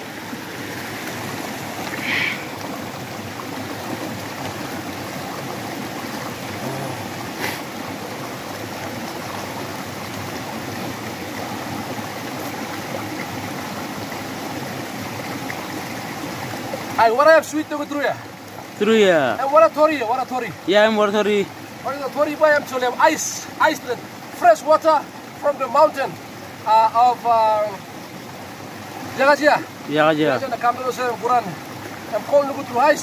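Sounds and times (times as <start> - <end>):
stream rushing water: 0.0 - 33.0.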